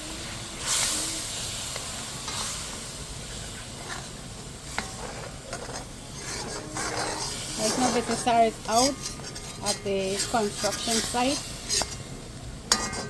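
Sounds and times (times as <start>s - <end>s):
seasoning sizzling in a pot: 0.0s - 13.0s.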